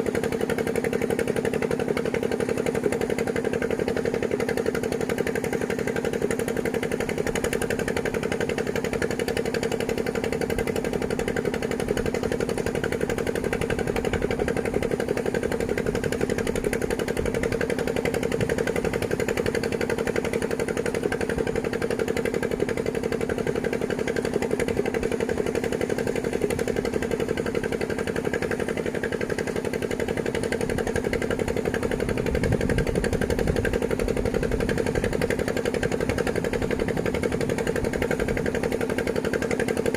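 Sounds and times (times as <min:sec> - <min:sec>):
engine running with rapid pulse: 0:00.0 - 0:39.9.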